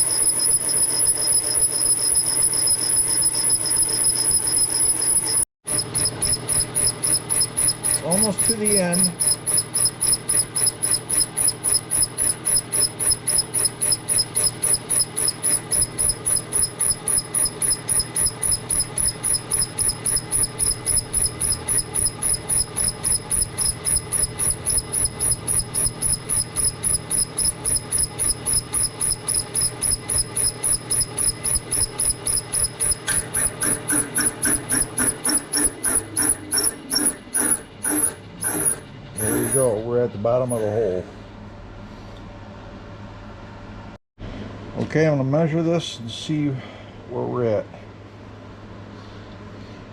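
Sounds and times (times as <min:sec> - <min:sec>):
milling machine whine with pulse: 0:00.0 - 0:41.4.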